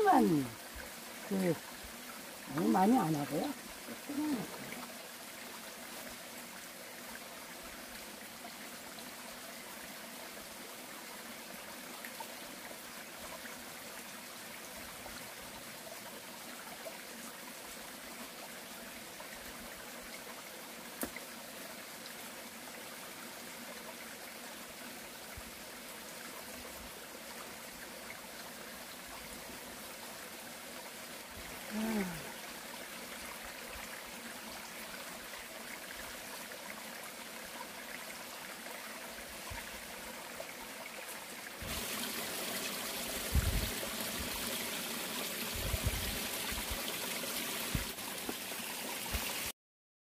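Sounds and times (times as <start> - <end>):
flowing water: 0.0 - 49.5.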